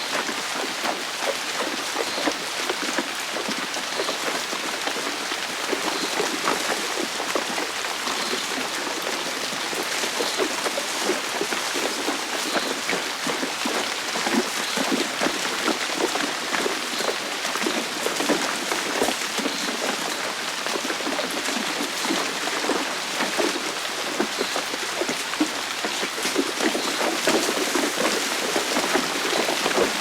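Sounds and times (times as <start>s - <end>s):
heavy rain on hard surface: 0.0s - 30.0s.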